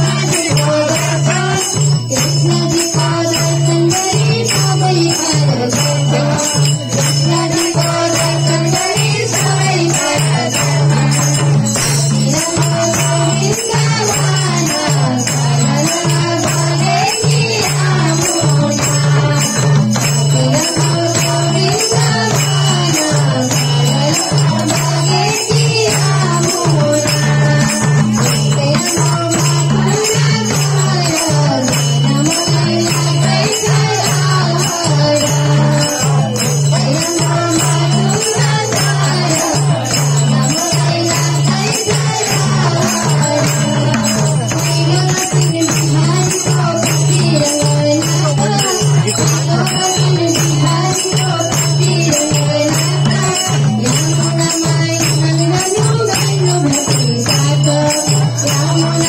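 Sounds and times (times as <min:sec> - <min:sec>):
hand drums: 0:00.0 - 0:59.0
jingling percussion: 0:00.0 - 0:59.0.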